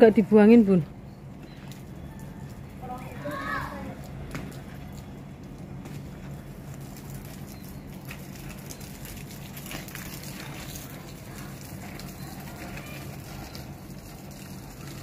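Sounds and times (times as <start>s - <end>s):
hose water spraying on plants: 1.4s - 15.0s.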